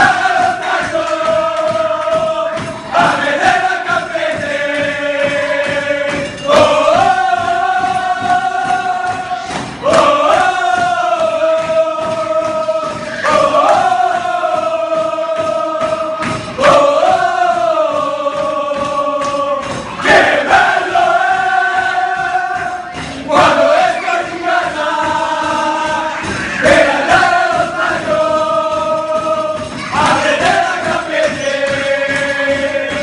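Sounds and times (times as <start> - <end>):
men chanting in unison: 0.0 - 33.0.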